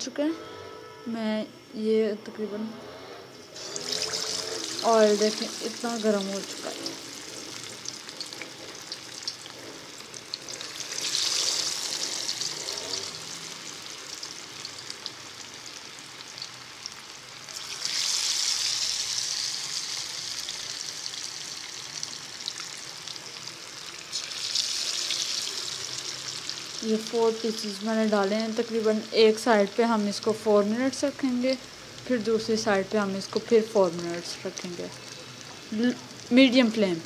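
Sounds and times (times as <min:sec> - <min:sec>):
fish sizzling in hot oil: 0:03.5 - 0:37.0.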